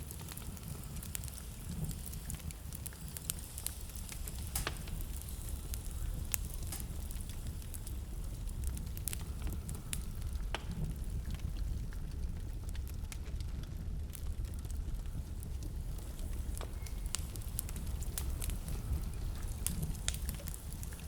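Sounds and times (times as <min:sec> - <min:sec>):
low fire rumble: 0:00.0 - 0:21.0
wood fire crackling: 0:00.0 - 0:21.0.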